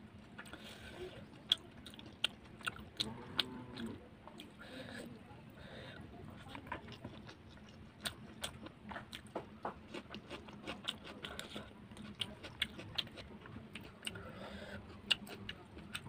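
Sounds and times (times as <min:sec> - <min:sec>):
person chewing food: 0:00.2 - 0:04.6, 0:06.4 - 0:16.0.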